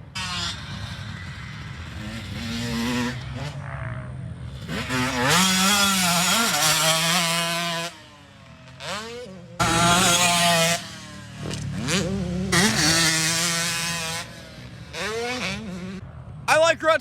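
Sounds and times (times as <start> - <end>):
dirt bike engine revving: 0.0 - 16.3.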